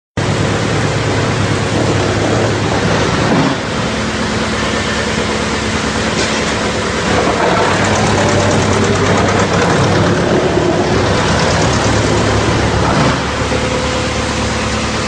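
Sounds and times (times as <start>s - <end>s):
wood chipper running: 0.2s - 15.0s.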